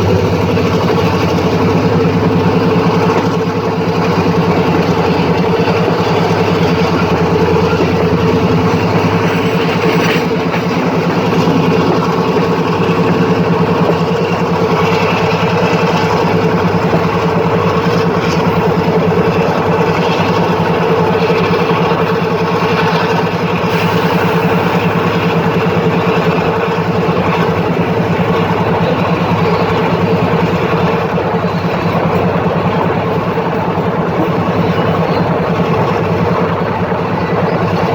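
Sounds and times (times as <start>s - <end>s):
locomotive engine droning: 0.0s - 37.9s.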